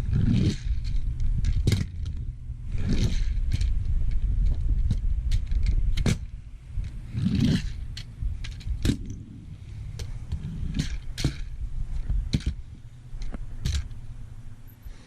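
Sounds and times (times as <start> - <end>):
small wheels rolling on ramp: 0.0 - 14.8.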